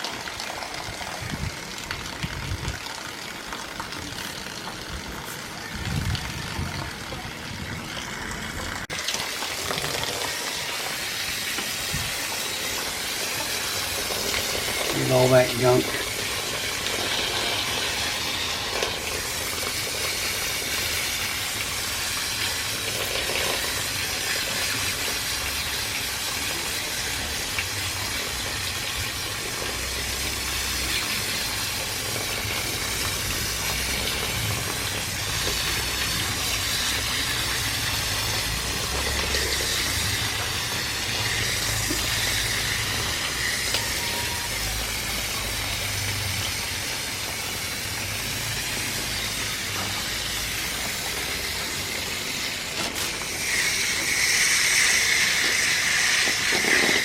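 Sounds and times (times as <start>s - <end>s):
water jet spraying: 0.0s - 57.0s.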